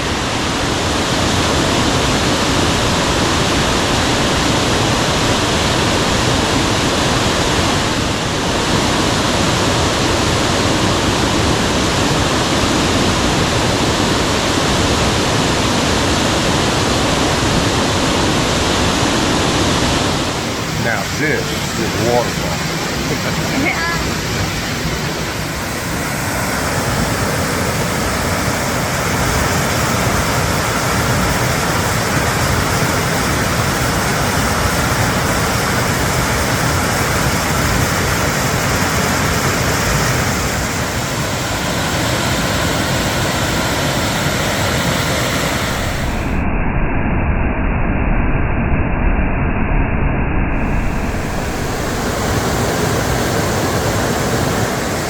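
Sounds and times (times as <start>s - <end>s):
waterfall rushing: 0.0s - 46.4s, 50.5s - 55.0s.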